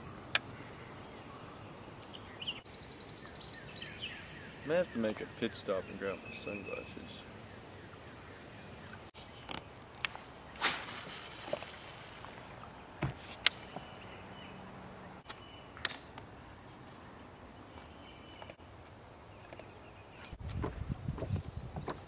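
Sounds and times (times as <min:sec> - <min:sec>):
insects buzzing: 0:00.0 - 0:22.0.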